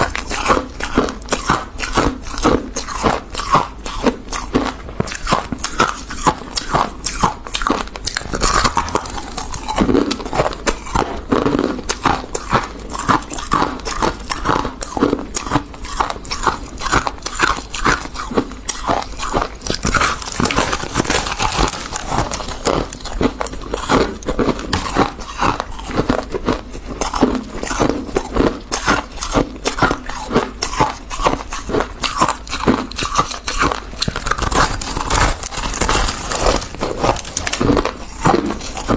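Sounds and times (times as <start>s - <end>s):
frost being chewed crunching: 0.0s - 38.9s.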